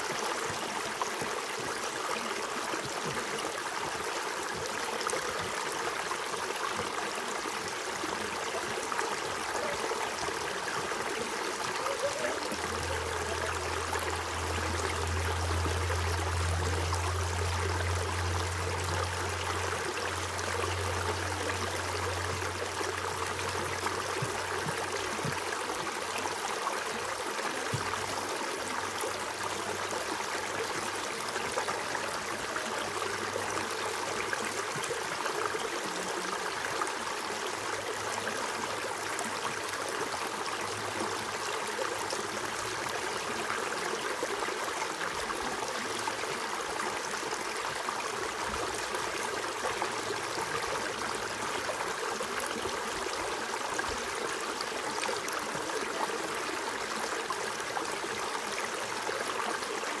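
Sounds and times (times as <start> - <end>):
creek water running over stones: 0.0 - 60.0.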